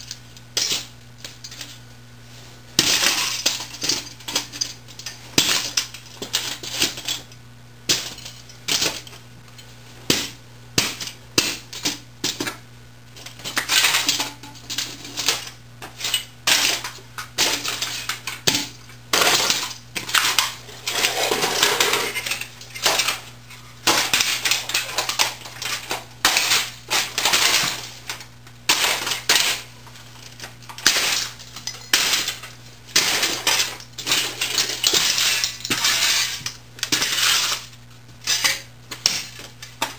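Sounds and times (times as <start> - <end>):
metal parts clattering on concrete: 2.8 - 9.2, 13.2 - 39.9.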